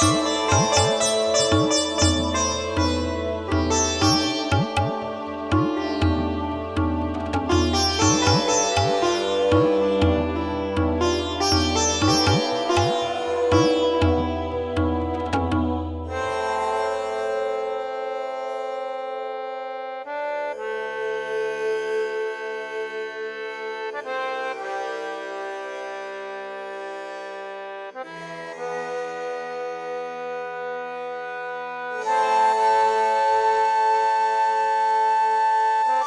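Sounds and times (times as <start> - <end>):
accordion-like chords: 0.0 - 33.3.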